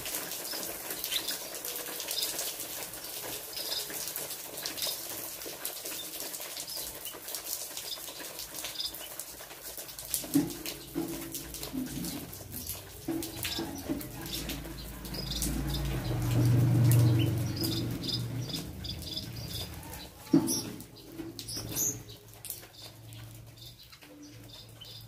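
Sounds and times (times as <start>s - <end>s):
small birds chirping: 0.2s - 5.2s, 5.8s - 9.5s, 10.7s - 25.0s.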